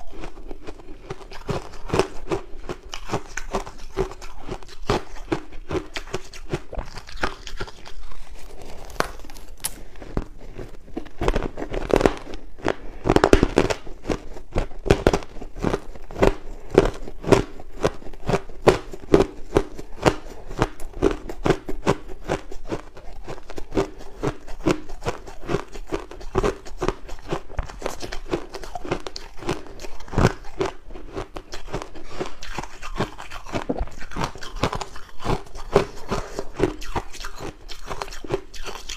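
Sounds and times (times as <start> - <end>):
chewing crushed ice: 0.0 - 38.9.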